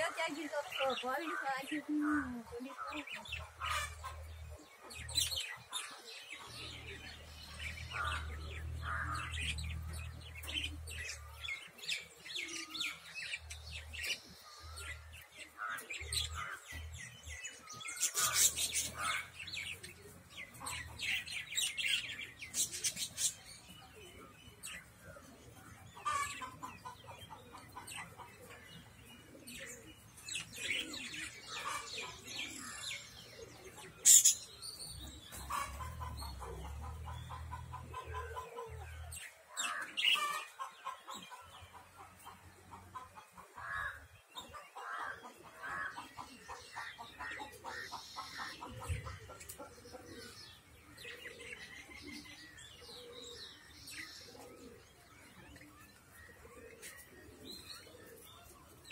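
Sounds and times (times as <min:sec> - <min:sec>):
budgerigars chirping: 0:00.0 - 0:58.4.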